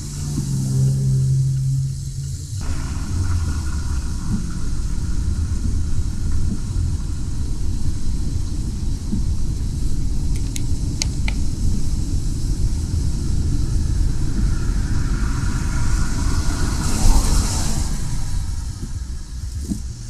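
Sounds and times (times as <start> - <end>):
vehicle driving rumble: 0.0 - 20.0.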